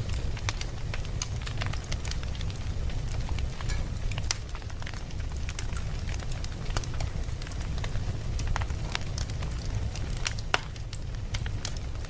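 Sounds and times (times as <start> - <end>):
fire crackling and popping: 0.0 - 12.0
fire rumbling: 0.0 - 12.0.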